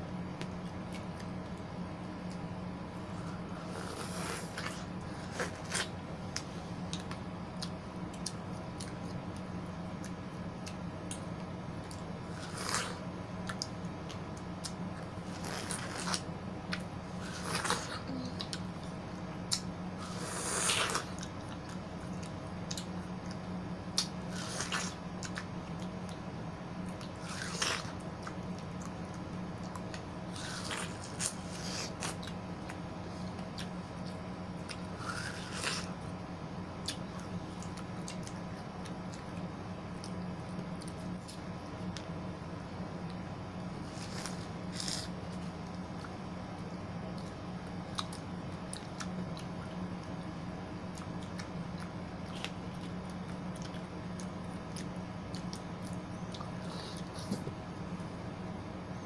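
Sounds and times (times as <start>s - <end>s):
steady low hum: 0.0s - 59.0s
chewing watermelon: 0.4s - 36.2s, 36.8s - 42.2s, 43.8s - 58.2s.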